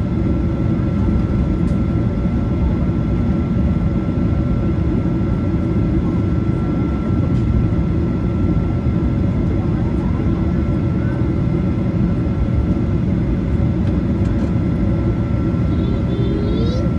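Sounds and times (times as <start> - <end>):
jet engines low rumble: 0.0 - 16.9.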